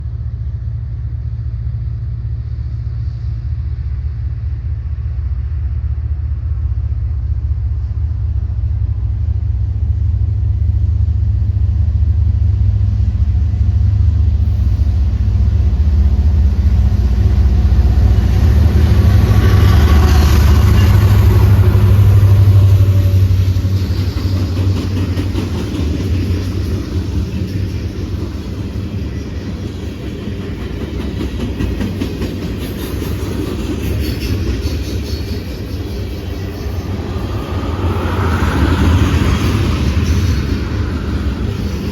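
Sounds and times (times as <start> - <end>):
locomotive rumbling: 0.0 - 41.9.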